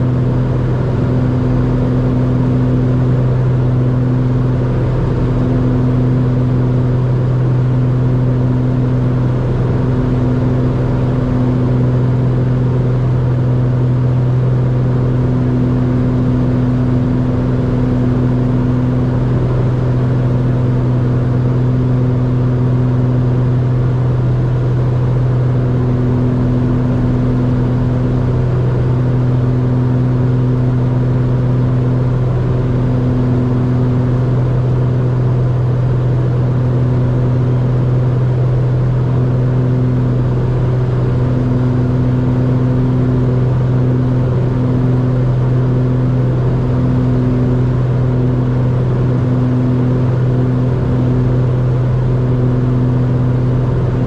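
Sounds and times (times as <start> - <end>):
propeller plane engines droning: 0.0 - 54.0.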